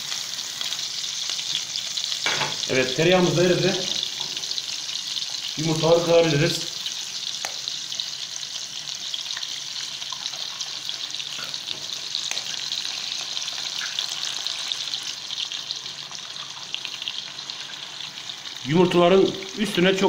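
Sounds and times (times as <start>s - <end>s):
sausage sizzling in a pan: 0.0s - 20.0s.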